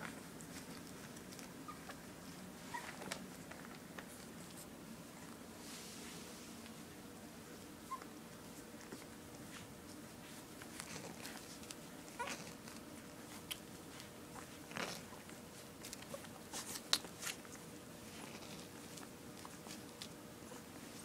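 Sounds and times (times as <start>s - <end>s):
puppies sucking and smacking: 0.0s - 5.6s, 6.5s - 21.0s.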